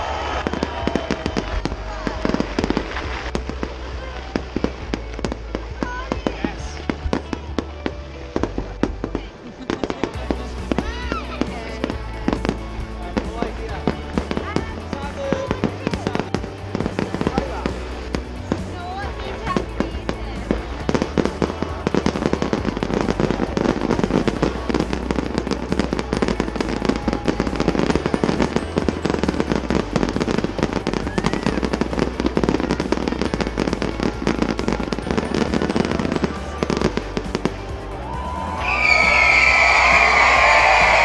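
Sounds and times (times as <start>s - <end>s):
fireworks crackling and popping: 0.0s - 41.0s
loud music: 0.0s - 41.0s.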